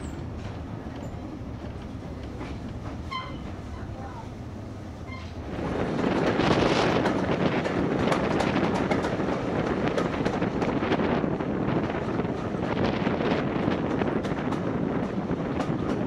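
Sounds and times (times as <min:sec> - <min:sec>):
moving train running noise: 0:00.0 - 0:16.0
wind buffeting microphone: 0:00.0 - 0:16.0.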